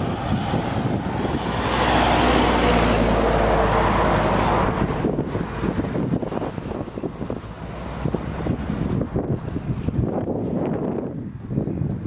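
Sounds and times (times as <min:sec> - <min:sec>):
car passing on highway: 0:00.0 - 0:12.0
wind buffeting microphone: 0:00.0 - 0:12.0.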